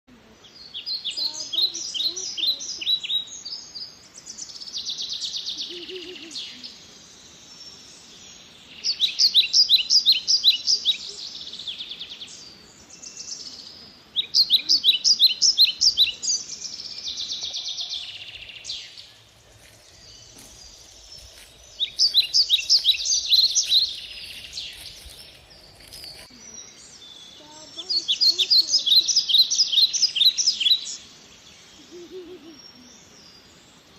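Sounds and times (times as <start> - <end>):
faint forest background: 0.0 - 33.9
songbird singing: 0.1 - 33.9.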